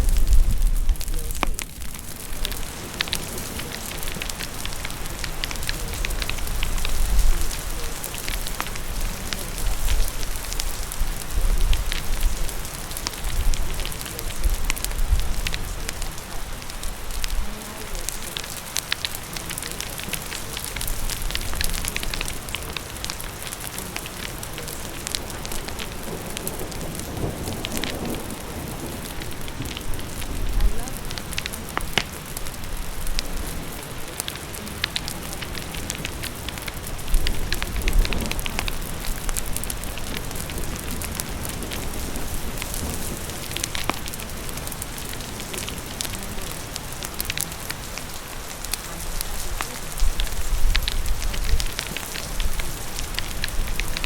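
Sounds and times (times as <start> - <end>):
fire crackling: 0.0 - 54.0
low rumbles: 0.0 - 54.0
steady rain hiss: 0.0 - 54.0.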